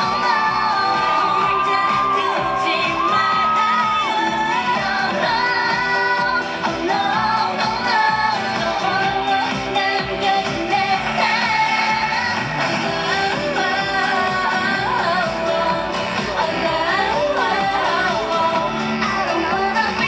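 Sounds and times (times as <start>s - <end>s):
women singing pop song: 0.0s - 20.0s.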